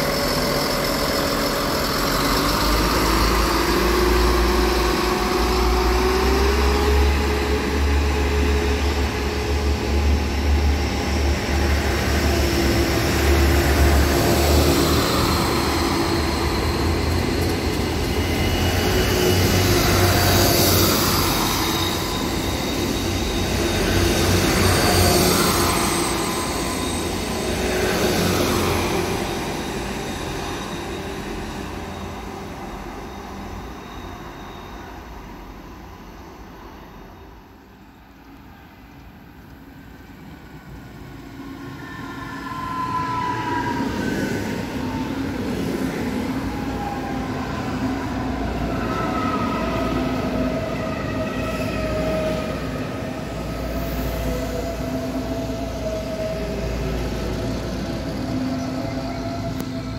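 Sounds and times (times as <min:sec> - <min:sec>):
diesel train passing: 0:00.0 - 0:59.9
electric train braking whine: 0:00.0 - 0:59.9.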